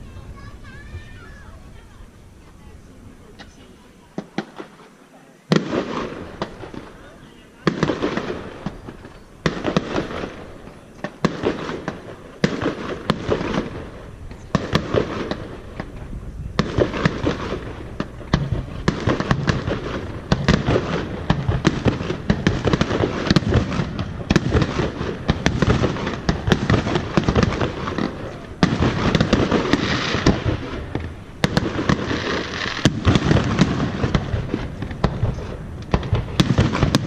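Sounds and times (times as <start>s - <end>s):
fireworks bangs: 0.0s - 37.0s
fireworks crackling: 0.0s - 37.0s.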